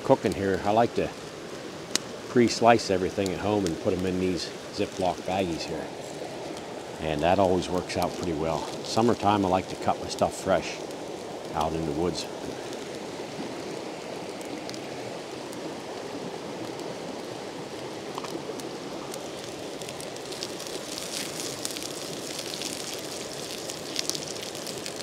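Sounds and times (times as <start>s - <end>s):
campfire crackling: 0.0s - 25.0s
hot oil hissing in a skillet: 0.0s - 25.0s.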